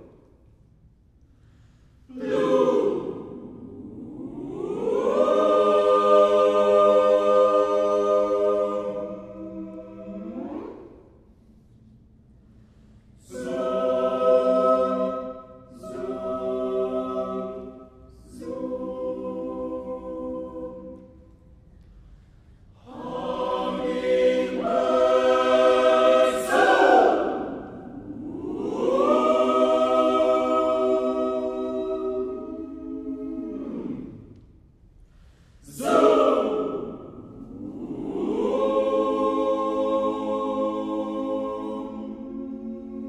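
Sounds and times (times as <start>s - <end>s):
choir singing a cappella: 1.3s - 43.0s.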